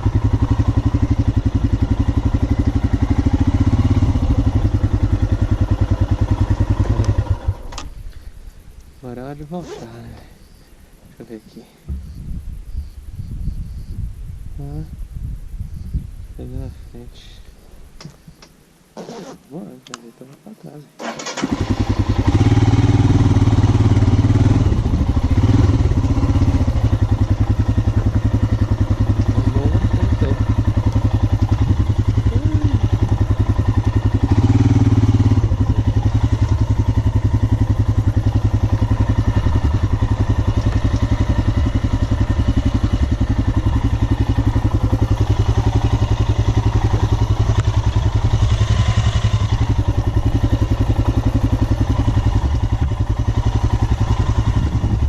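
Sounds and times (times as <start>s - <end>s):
motorcycle engine running: 0.0s - 10.6s, 21.3s - 55.0s.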